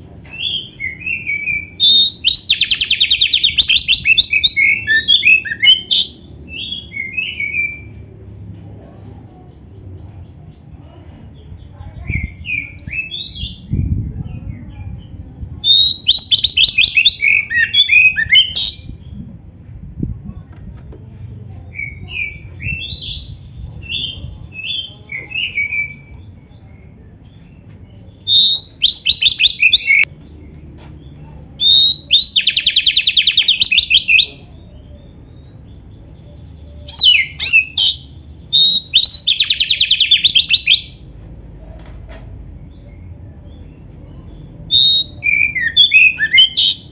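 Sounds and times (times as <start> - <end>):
magpie-robin singing: 0.1 - 8.1, 9.4 - 19.2, 21.6 - 41.1, 42.5 - 46.9.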